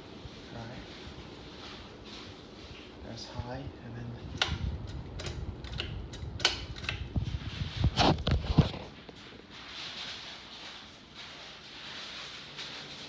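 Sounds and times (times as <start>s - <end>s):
ceiling fan whoosh: 0.0s - 13.0s.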